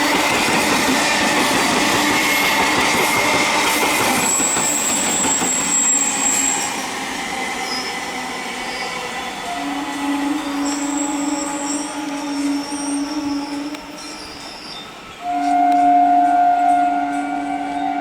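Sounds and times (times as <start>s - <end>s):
electric train running on track: 0.0s - 18.0s
wheels squealing on rails: 0.0s - 18.0s.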